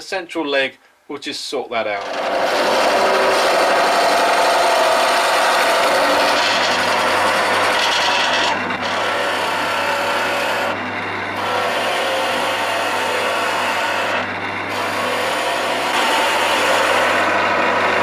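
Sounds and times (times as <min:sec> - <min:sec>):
turning tool cutting wood: 0:01.9 - 0:18.0
lathe humming: 0:02.0 - 0:18.0.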